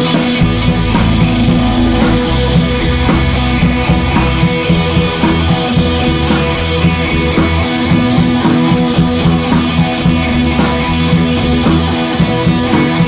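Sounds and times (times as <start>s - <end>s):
drum kit beat: 0.0s - 13.0s
electric guitar: 0.0s - 13.0s.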